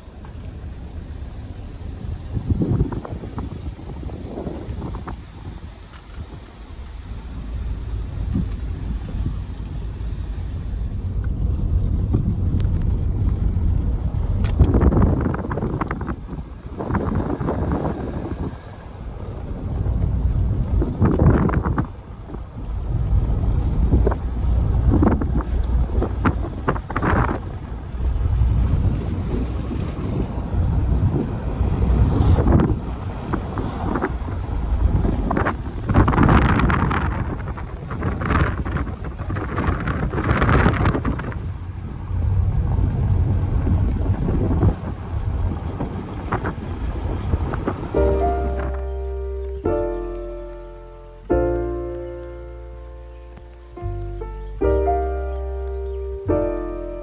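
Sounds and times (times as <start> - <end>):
wind buffeting microphone: 0.0 - 56.8.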